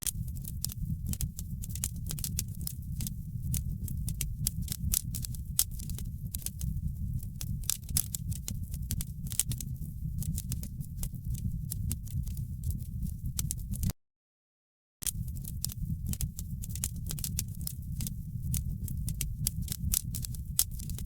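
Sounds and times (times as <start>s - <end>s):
low rumble of flames: 0.0s - 13.9s, 15.0s - 21.0s
wood fire crackling and popping: 0.0s - 13.9s, 15.0s - 21.0s.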